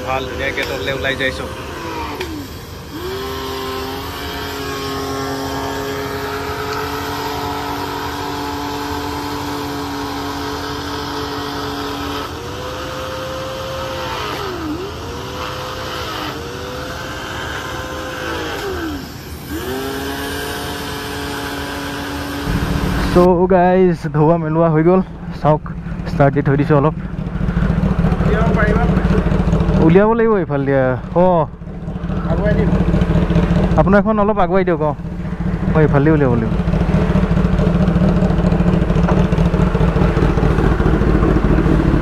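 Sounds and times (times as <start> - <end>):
pressure washer motor humming: 0.0 - 42.0.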